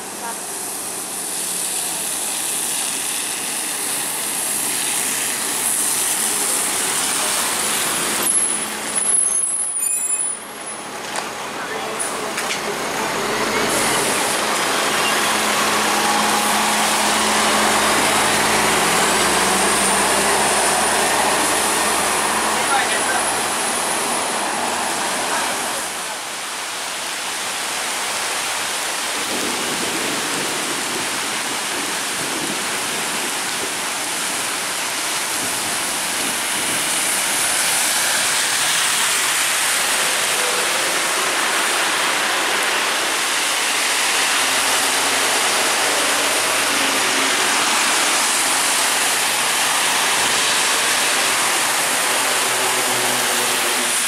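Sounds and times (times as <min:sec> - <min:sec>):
bus tyres swishing on wet road: 0:00.0 - 0:54.0
heavy rain pouring: 0:00.0 - 0:54.0.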